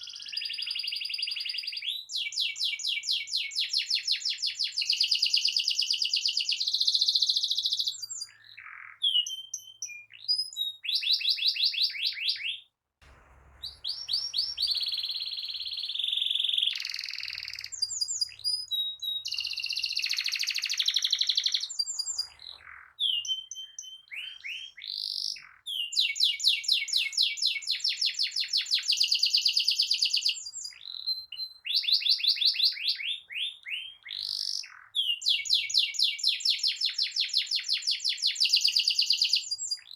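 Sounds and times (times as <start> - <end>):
canary singing trills: 0.0 - 12.6, 13.4 - 39.9.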